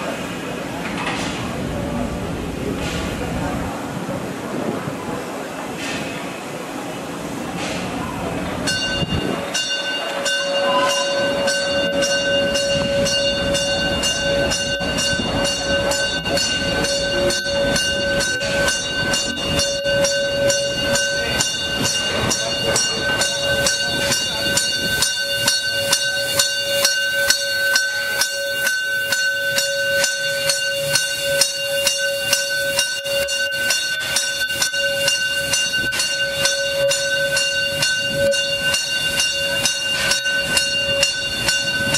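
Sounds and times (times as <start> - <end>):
steam locomotive whine and hiss: 0.0 - 41.9
locomotive rhythmic beating: 6.8 - 41.9.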